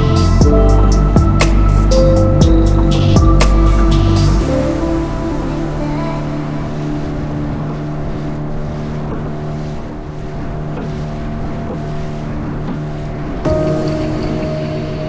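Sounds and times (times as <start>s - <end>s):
boat engine running: 0.0s - 15.0s
water noise: 0.0s - 15.0s.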